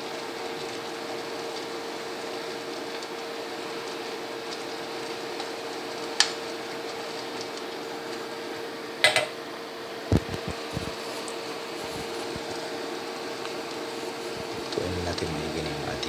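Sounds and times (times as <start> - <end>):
fan-like hum with steady tone: 0.0 - 16.0
pot simmering: 0.0 - 16.0.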